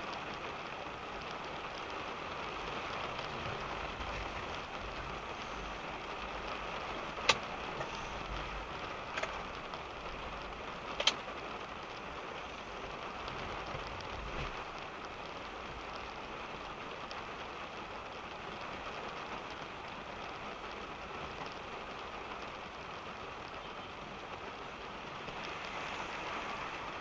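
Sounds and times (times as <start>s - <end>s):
rain on a car roof: 0.0s - 27.0s.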